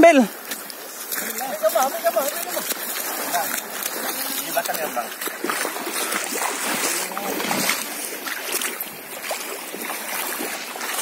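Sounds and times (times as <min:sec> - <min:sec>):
shallow seawater sloshing: 0:00.0 - 0:11.0.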